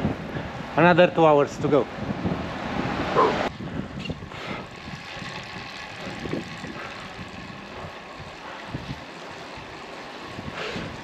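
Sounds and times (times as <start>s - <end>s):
wind rushing over microphone: 0.0s - 11.0s
tyre noise on wet road: 1.9s - 11.0s.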